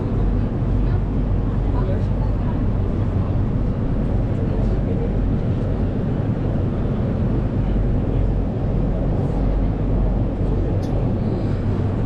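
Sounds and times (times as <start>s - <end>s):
funicular railcar rumble: 0.0s - 12.0s.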